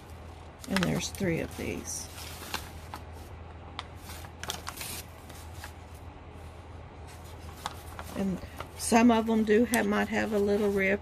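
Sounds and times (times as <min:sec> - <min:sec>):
paper rustling and crinkling: 0:00.5 - 0:06.0, 0:07.0 - 0:11.0.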